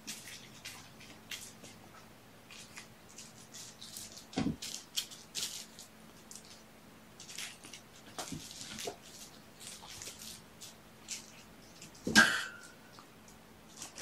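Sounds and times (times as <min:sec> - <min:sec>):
kittens scuffling toys: 0:00.0 - 0:14.0.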